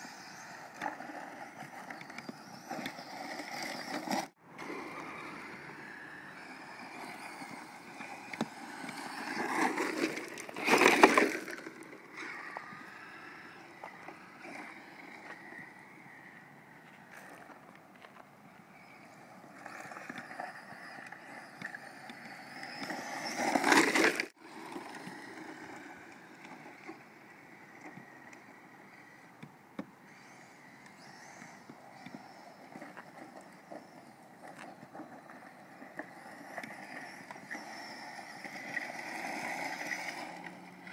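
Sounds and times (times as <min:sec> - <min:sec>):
tyres on loose grit: 0:00.0 - 0:16.4, 0:17.0 - 0:40.9
electric motor whine: 0:00.0 - 0:40.9.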